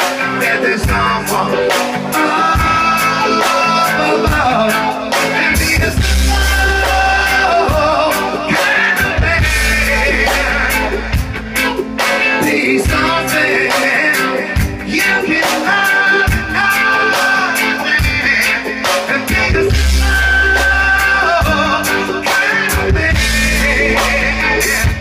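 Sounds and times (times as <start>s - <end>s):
backing beat: 0.0s - 25.0s
heavy bass: 0.0s - 25.0s
man singing into microphone: 0.0s - 25.0s.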